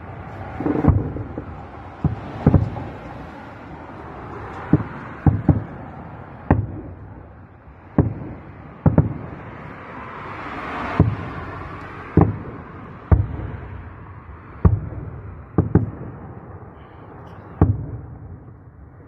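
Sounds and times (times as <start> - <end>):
fireworks booming with echo: 0.0 - 9.9, 10.8 - 19.0.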